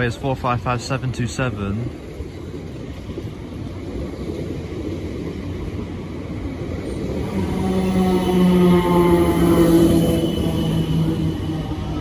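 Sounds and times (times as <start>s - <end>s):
train arriving rumble: 0.0s - 12.0s.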